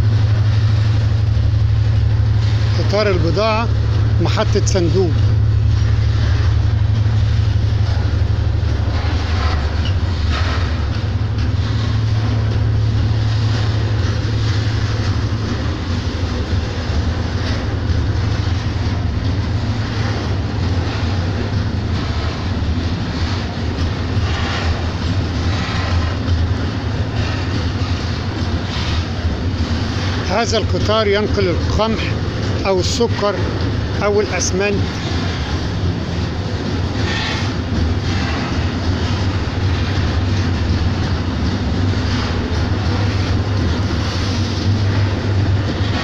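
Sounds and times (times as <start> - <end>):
freight train rumbling past: 0.0 - 46.0
wheel clatter over rail joints: 0.0 - 46.0.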